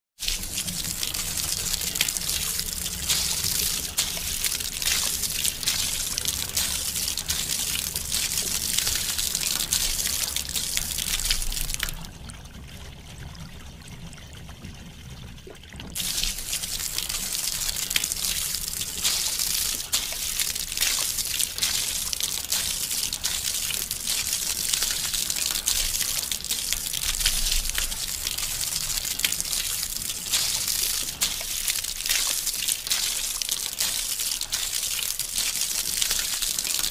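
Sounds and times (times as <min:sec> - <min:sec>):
soapy water sloshing and splashing: 0:00.2 - 0:12.0, 0:15.9 - 0:36.9.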